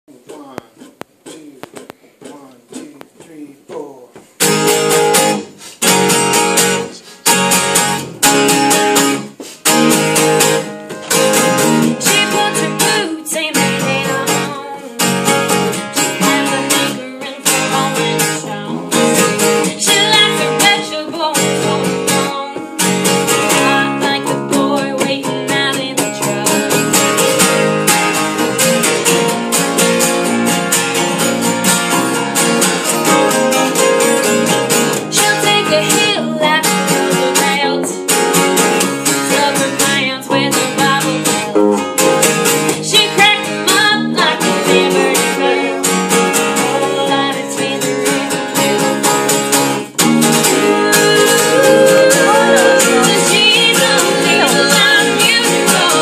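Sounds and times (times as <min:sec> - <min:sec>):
guitars strumming chords: 0:00.1 - 0:56.0.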